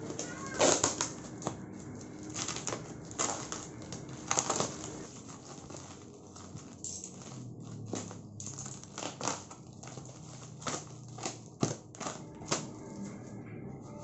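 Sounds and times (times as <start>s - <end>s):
plastic wrapping crinkling and tearing: 0.0s - 13.2s.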